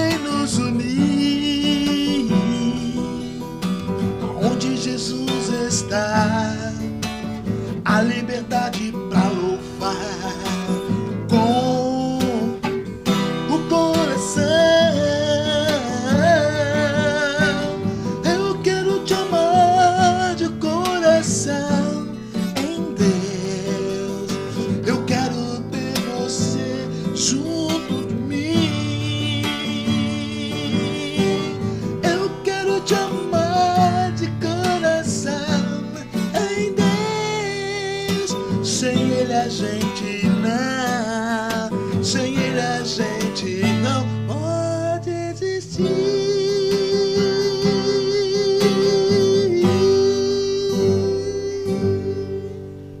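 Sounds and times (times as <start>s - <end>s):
strummed acoustic guitar: 0.0s - 53.0s.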